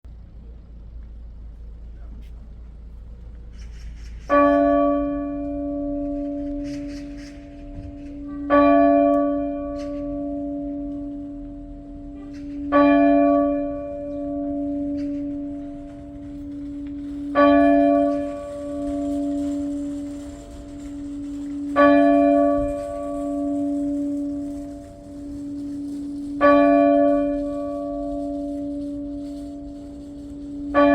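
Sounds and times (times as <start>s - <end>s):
church bell tolling: 4.3s - 30.9s.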